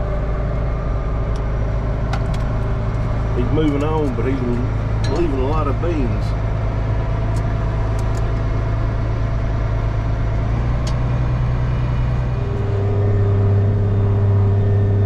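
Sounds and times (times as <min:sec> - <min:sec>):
vehicle engine from inside cab: 0:00.0 - 0:15.0.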